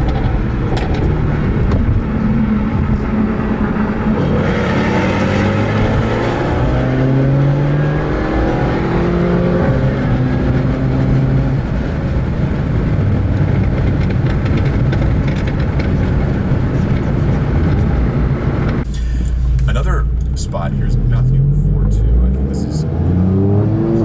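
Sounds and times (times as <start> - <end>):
car engine accelerating: 0.0 - 24.0
road noise: 0.0 - 24.0.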